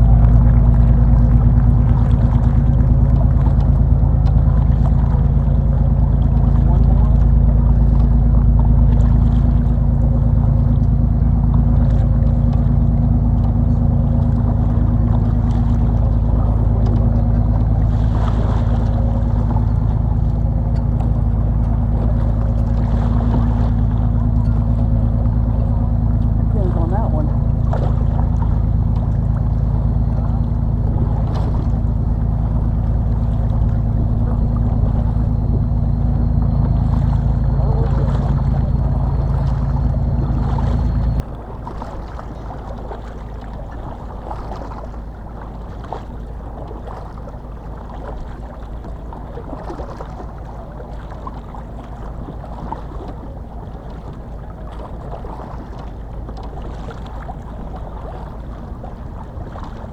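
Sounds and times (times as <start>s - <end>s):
boat engine running: 0.0s - 59.9s
water: 0.0s - 59.9s
wind: 0.0s - 59.9s.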